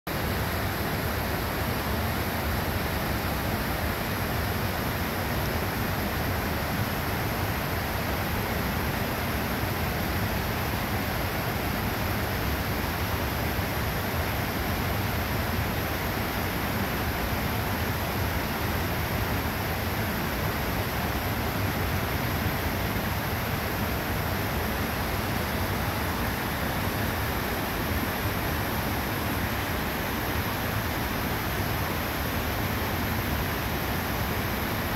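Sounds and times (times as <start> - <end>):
creek rapids and waterfall rushing: 0.1 - 34.9.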